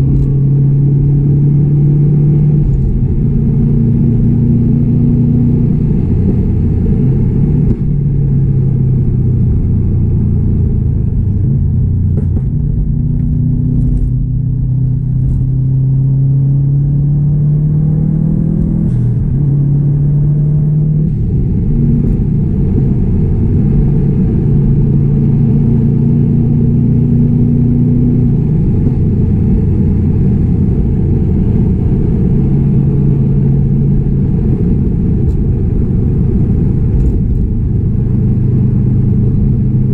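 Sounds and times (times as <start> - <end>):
car engine and exhaust drone: 0.0 - 39.9.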